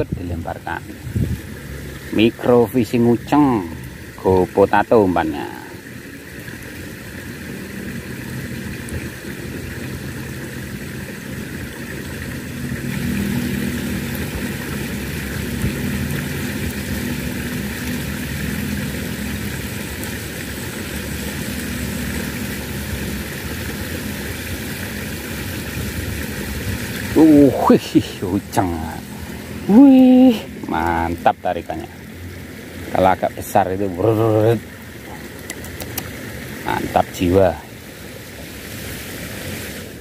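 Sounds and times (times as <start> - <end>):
engine humming: 0.0 - 40.0.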